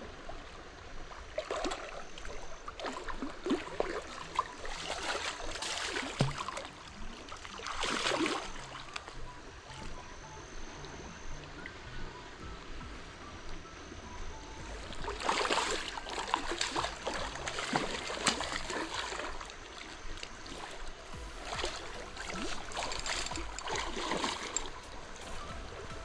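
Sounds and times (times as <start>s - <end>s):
river water rushing and splashing: 0.0s - 26.0s.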